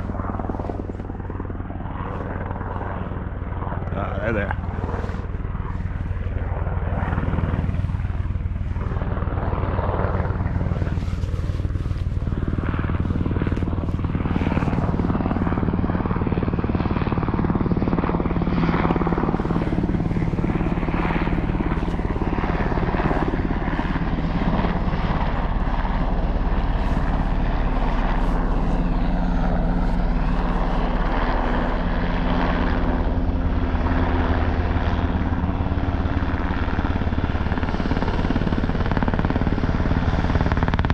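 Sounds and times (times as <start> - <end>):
helicopter rotor and engine: 0.0 - 40.9.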